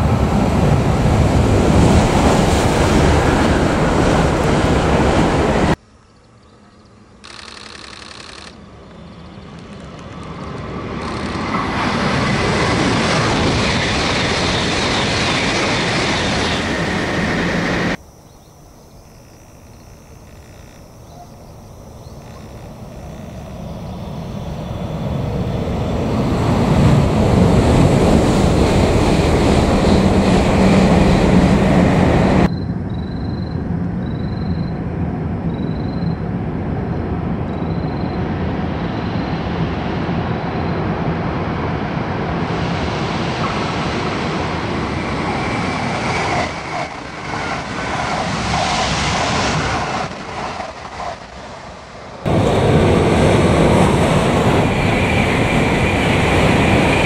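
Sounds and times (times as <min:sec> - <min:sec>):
train passing with rumble: 0:00.0 - 0:05.8, 0:08.6 - 0:18.0, 0:20.8 - 0:57.0
train rumbling from tunnel: 0:00.0 - 0:05.8, 0:08.7 - 0:18.4, 0:21.0 - 0:57.0.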